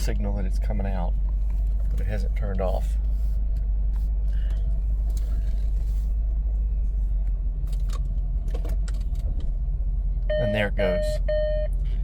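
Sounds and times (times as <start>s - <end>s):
engine and drivetrain rumble: 0.0s - 12.0s.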